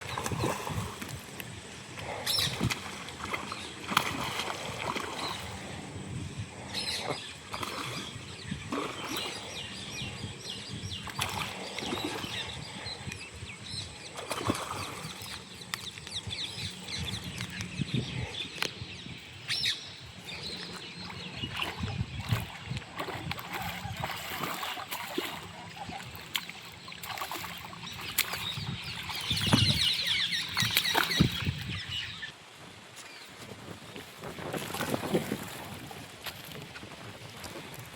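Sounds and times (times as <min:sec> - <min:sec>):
water splashing and flapping: 0:00.0 - 0:13.2, 0:13.9 - 0:17.6, 0:20.2 - 0:37.9
small birds chirping: 0:00.0 - 0:32.4.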